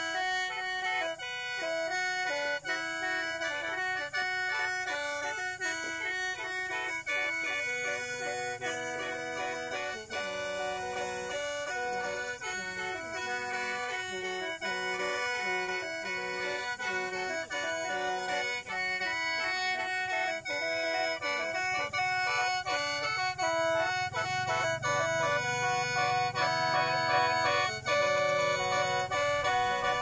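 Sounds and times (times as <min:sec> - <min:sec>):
mouth organ melody over drone: 0:00.0 - 0:30.0.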